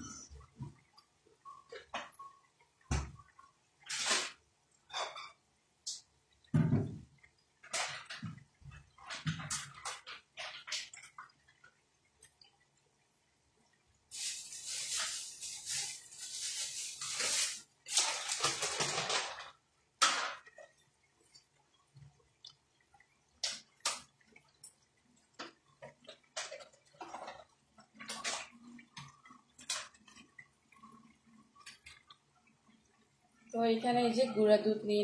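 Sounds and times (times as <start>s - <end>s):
water running: 0.0s - 35.0s.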